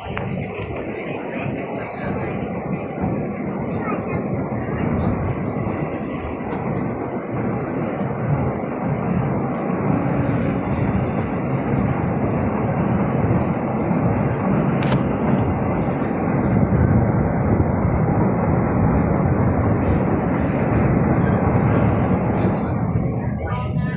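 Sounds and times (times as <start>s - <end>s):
train rumbling: 0.0s - 23.9s.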